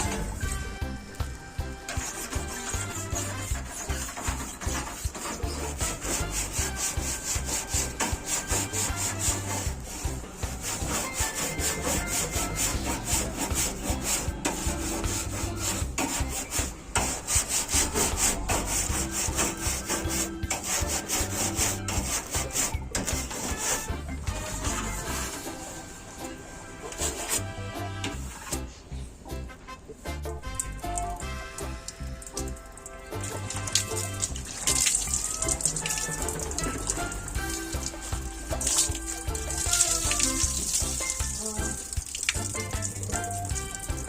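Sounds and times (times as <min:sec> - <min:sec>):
rhythmic scrubbing strokes: 0:00.0 - 0:28.6, 0:30.4 - 0:44.0.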